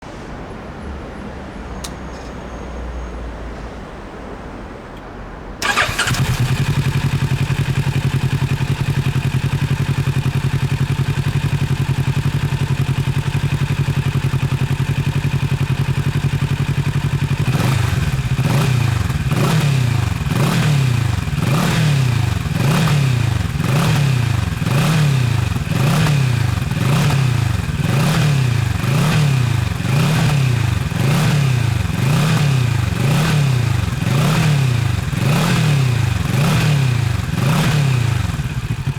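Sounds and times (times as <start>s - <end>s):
motorcycle engine idling and revving: 5.6s - 38.9s.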